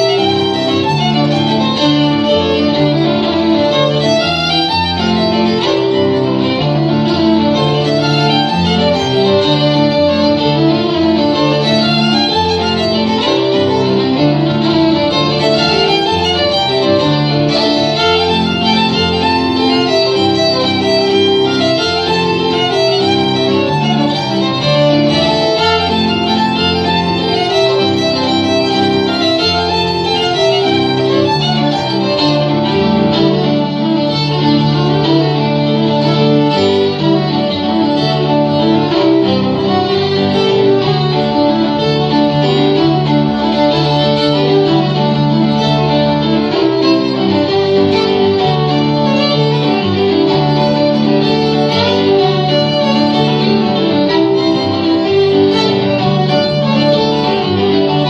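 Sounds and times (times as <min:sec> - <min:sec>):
violin melody: 0:00.0 - 0:58.0.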